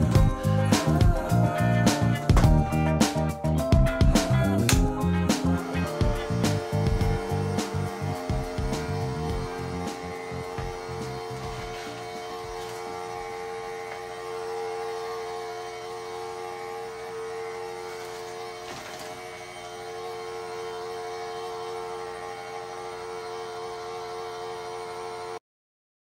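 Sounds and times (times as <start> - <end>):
vacuum mop whining: 0.0 - 25.4.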